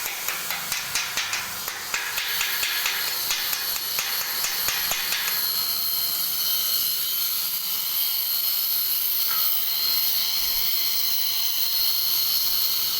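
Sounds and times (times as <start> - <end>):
arc welding hiss: 0.0 - 12.9.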